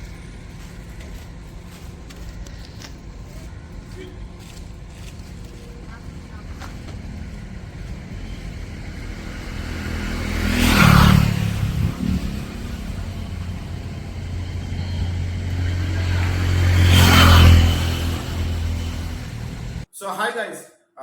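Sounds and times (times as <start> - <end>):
low engine hum: 0.0 - 19.9
vehicles passing by: 0.0 - 19.9.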